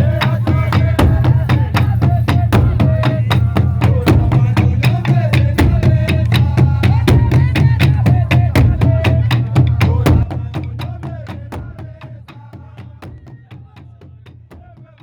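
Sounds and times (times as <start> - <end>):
fast percussive beat: 0.0 - 15.0.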